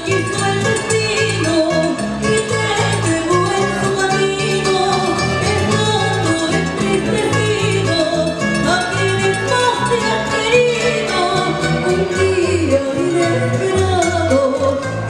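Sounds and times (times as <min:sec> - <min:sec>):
acoustic guitars: 0:00.0 - 0:15.0
electric bass: 0:00.0 - 0:15.0
hand percussion rhythm: 0:00.0 - 0:15.0
woman singing into a microphone: 0:00.0 - 0:15.0.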